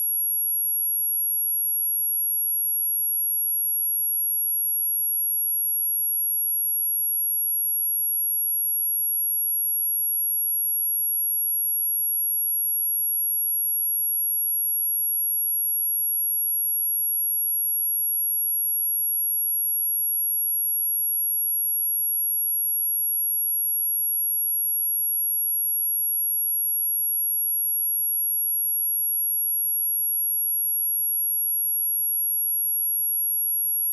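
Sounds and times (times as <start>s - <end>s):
high-pitched sine-wave test tone: 0.0s - 33.9s.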